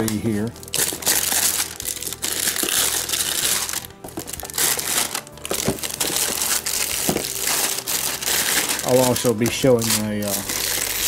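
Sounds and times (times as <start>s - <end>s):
plastic shrink-wrap crinkling: 0.0s - 11.0s.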